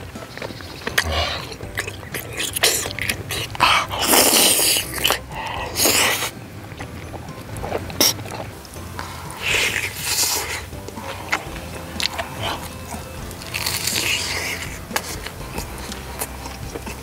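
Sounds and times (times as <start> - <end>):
crunchy fritter being chewed: 0.0 - 17.0
mouth clicks: 0.0 - 17.0.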